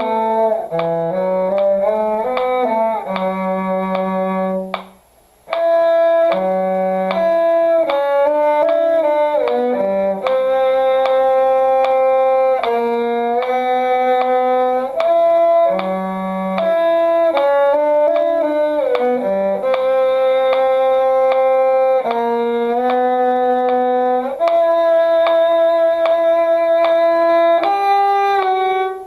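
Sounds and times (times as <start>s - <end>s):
cello bowed line: 0.0s - 29.0s
violin melody: 0.0s - 29.0s.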